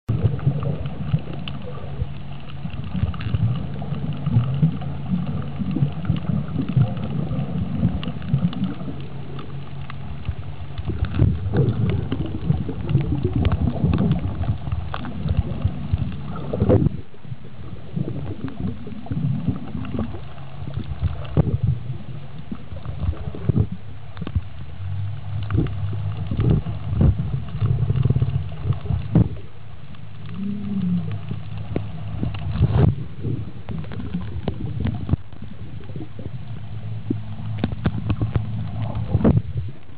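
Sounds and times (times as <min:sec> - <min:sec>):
muffled underwater rumble: 0:00.0 - 0:39.9
small underwater clicks and crackles: 0:00.0 - 0:39.9.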